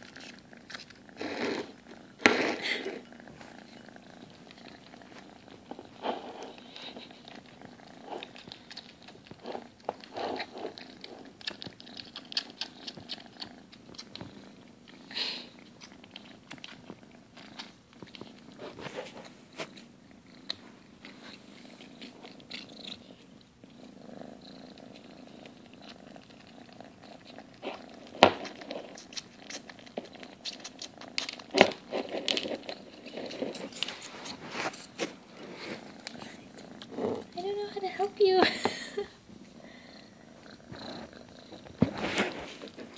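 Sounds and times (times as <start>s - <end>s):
cat crunching food: 0.0s - 37.4s
cat purring: 0.0s - 42.9s.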